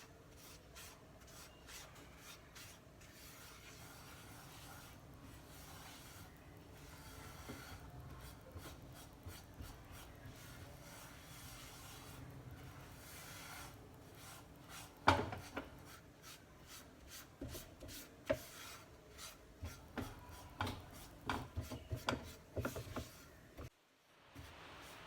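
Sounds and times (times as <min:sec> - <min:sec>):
spatula scraping in a pan: 0:00.0 - 0:23.7.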